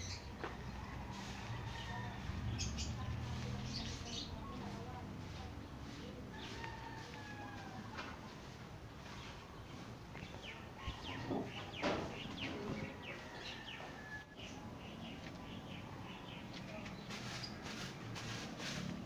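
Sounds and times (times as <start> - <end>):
small birds chirping: 0.0 - 7.6, 8.3 - 18.2.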